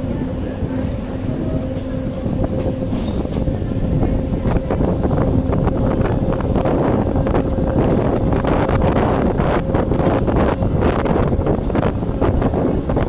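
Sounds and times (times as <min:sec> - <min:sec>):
train low rumble: 0:00.0 - 0:13.0
wind buffeting microphone: 0:00.0 - 0:13.0.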